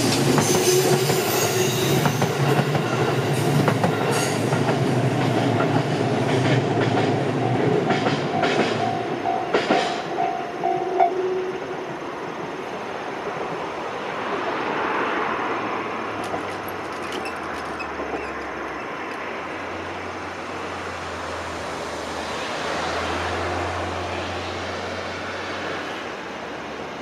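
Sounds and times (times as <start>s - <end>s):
electric train rumble: 0.0s - 27.0s.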